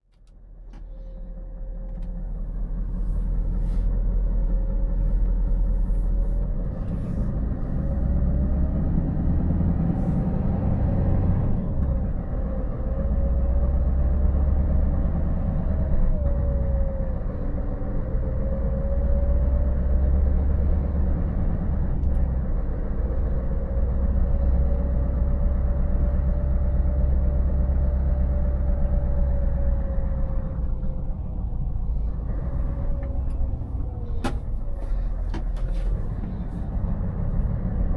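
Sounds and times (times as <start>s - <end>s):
truck diesel engine drone: 0.0s - 37.9s
road noise: 0.2s - 37.9s.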